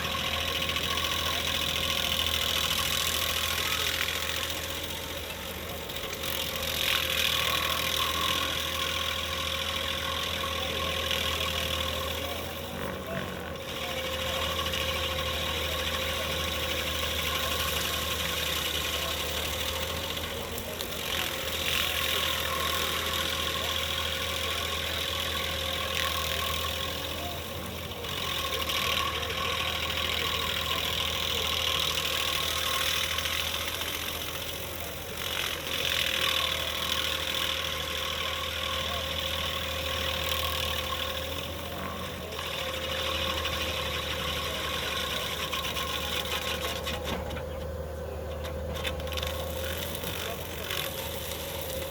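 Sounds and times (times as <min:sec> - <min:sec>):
constant whine: 0:00.0 - 0:51.9
engine hum: 0:00.0 - 0:51.9.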